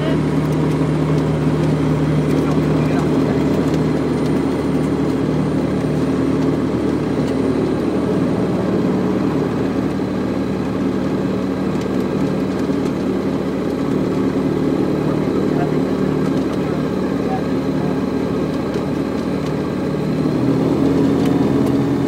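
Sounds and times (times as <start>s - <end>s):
light aircraft engine running: 0.0s - 22.0s.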